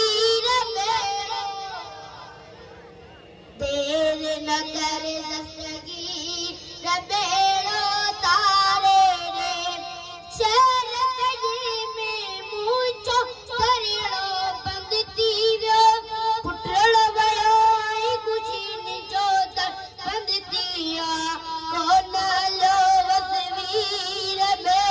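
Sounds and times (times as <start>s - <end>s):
boy singing through loudspeaker: 0.0s - 2.8s, 3.5s - 24.9s.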